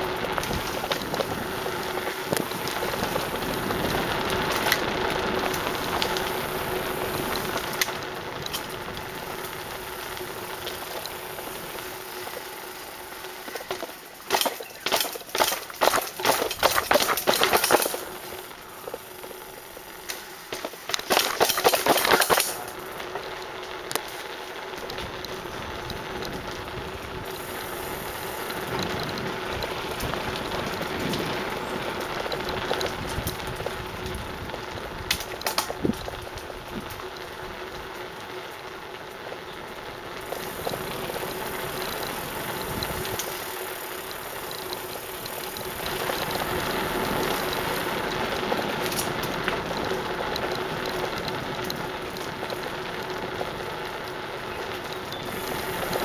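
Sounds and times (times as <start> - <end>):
bicycle frame rattle: 0.0 - 56.0
bicycle tyres rolling on concrete: 0.0 - 56.0.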